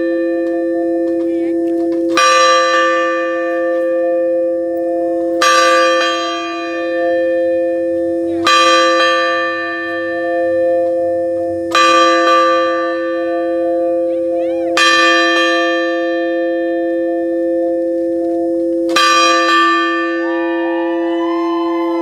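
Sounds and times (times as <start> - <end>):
large bell ringing: 0.0 - 22.0.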